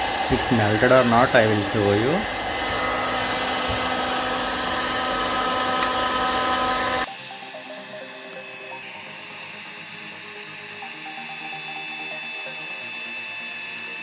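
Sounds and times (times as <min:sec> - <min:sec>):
hot air gun running: 0:00.0 - 0:14.0.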